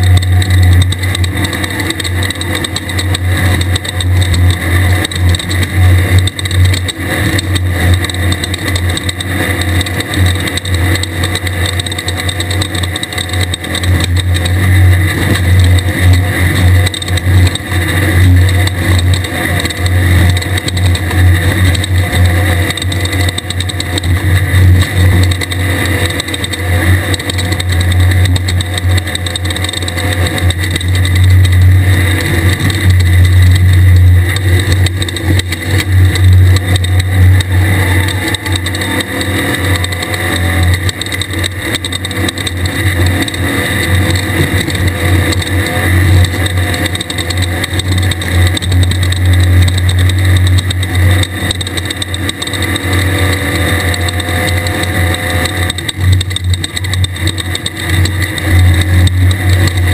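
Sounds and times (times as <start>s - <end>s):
buggy engine running hard: 0.0s - 59.9s.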